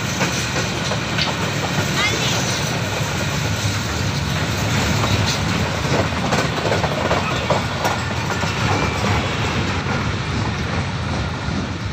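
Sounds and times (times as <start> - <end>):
freight train wheels rumbling: 0.0 - 11.9
train wagons clacking: 0.0 - 11.9.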